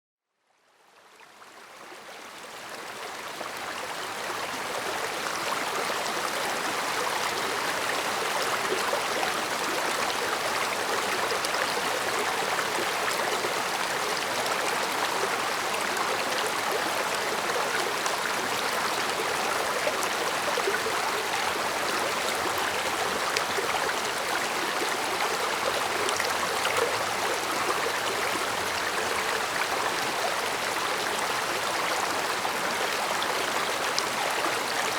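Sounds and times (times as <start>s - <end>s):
stream babbling over rocks: 2.7s - 34.9s.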